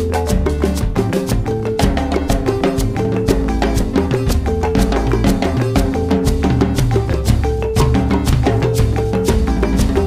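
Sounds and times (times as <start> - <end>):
music with percussion and bass: 0.0 - 10.0.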